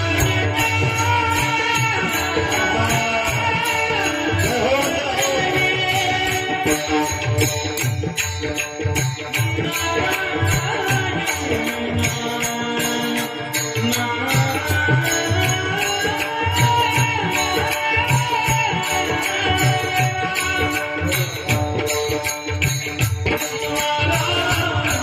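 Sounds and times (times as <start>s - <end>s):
harmonium tones: 0.0s - 25.0s
man singing devotional melody: 0.0s - 25.0s.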